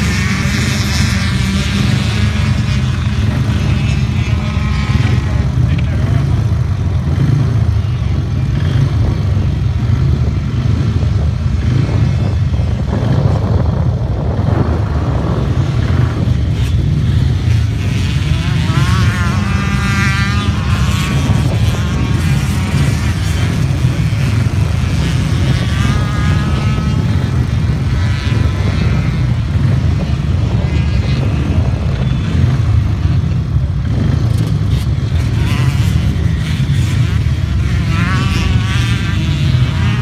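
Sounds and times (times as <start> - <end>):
engine whine: 0.0 - 40.0
motorcycle engine revving: 0.0 - 40.0
off-road motorcycles racing: 0.0 - 40.0.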